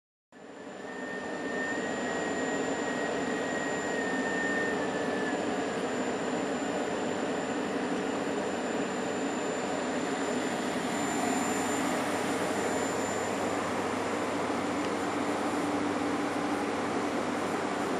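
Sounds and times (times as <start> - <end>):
thin high whine: 0.4 - 17.9.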